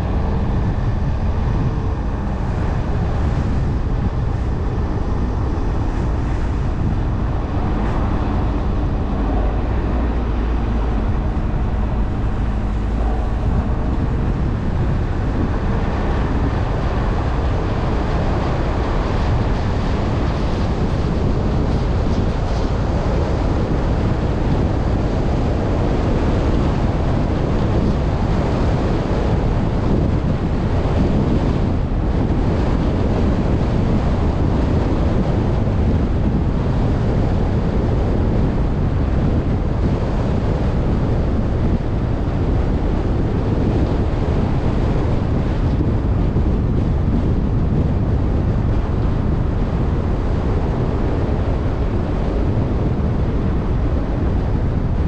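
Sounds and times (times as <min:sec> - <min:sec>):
tyre roar on asphalt: 0:00.0 - 0:55.0
wind on microphone: 0:00.0 - 0:55.0.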